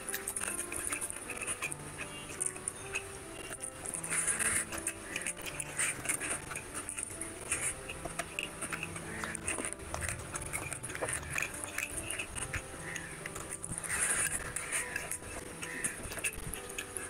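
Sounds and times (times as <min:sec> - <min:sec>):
fingers squishing rice: 0:00.0 - 0:17.0
wet chewing and lip smacking: 0:00.0 - 0:17.0.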